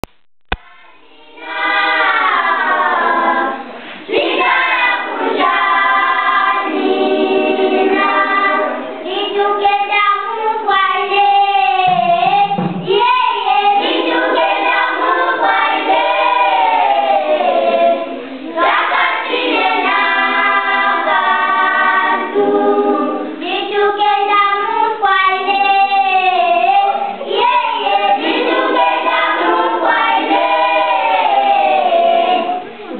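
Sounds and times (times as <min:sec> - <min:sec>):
children's choir singing: 0:00.6 - 0:32.9.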